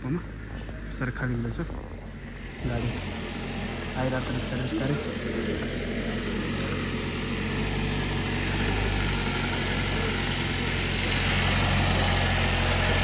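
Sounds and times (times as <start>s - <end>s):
diesel engine at low revs: 0.0s - 13.0s.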